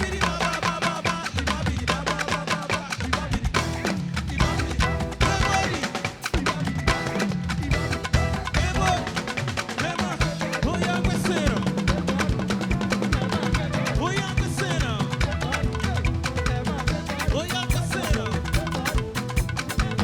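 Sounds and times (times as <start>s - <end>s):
church band playing upbeat music: 0.0s - 20.0s
drum and percussion beat: 0.0s - 20.0s.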